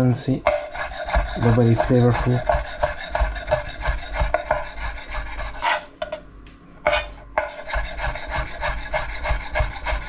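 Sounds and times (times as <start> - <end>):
knife sawing through bacon: 0.6 - 5.9, 6.9 - 10.0.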